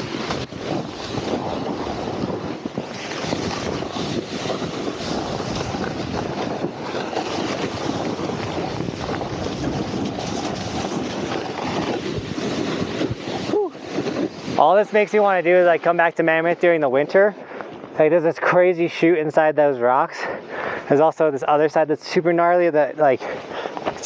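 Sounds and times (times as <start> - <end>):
snowboard scraping on snow: 0.0 - 24.0
wind rushing over microphone: 0.0 - 24.0.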